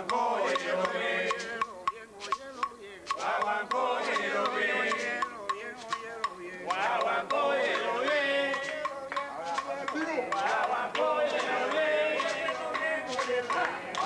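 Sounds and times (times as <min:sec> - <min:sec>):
men singing a chorus: 0:00.0 - 0:14.0
percussion clicks: 0:00.0 - 0:14.0.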